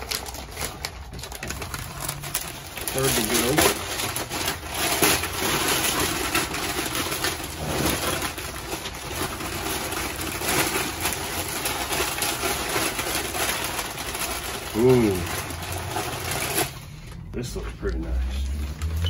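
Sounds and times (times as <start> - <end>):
tissue paper rustling and crinkling: 0.0 - 19.0.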